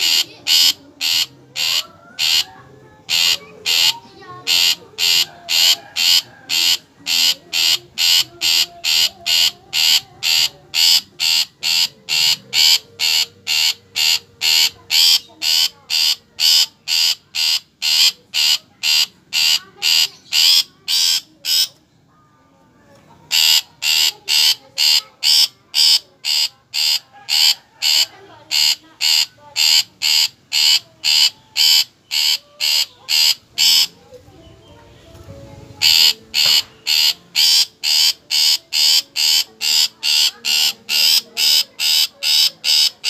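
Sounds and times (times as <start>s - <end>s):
shrike harsh repeated call: 4.5s - 21.7s, 23.3s - 33.9s, 35.8s - 43.0s.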